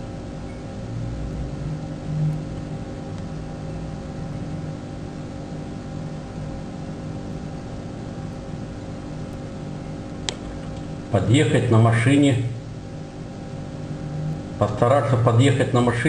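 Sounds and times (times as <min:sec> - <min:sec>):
mechanical hum of held tones: 0:00.0 - 0:16.0.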